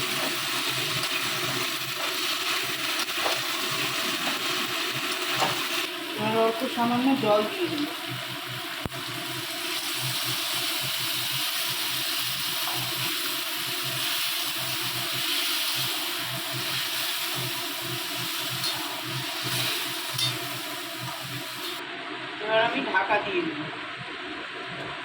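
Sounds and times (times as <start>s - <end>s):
chicken sizzling in a pan: 0.0s - 21.8s.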